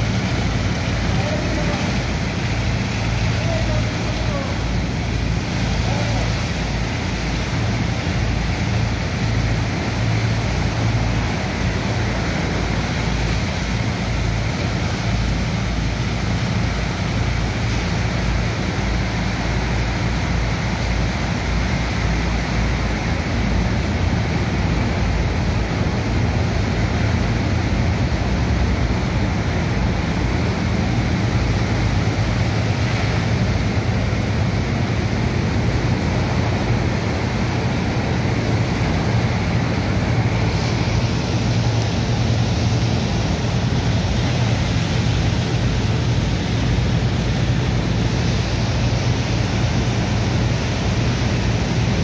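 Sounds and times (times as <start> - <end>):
pump machinery drone: 0.0 - 52.0
water jets spraying on sand: 0.0 - 52.0.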